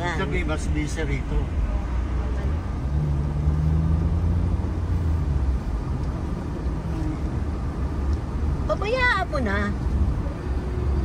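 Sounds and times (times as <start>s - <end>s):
engine hum: 0.0s - 11.0s
vehicle engine and road noise: 0.0s - 11.0s.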